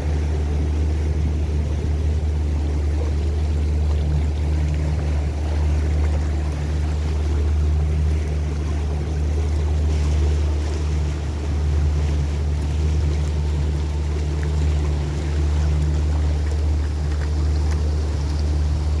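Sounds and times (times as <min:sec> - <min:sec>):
boat motor humming: 0:00.0 - 0:19.0
water washing against hull: 0:00.0 - 0:19.0.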